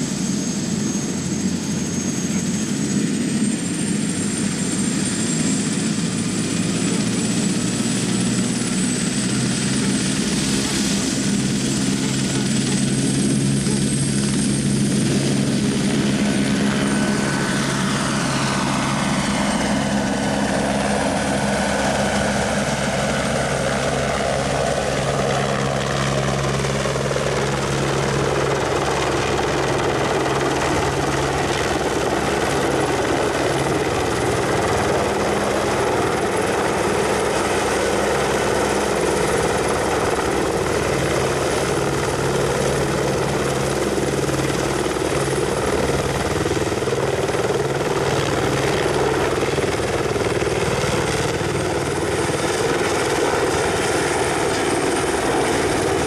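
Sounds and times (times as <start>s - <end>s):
helicopter turbine whine and rotor drone: 0.0s - 56.0s.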